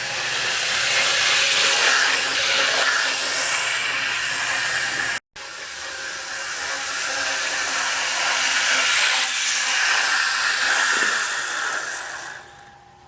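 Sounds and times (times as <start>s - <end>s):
model locomotive motor whir: 0.0s - 13.0s.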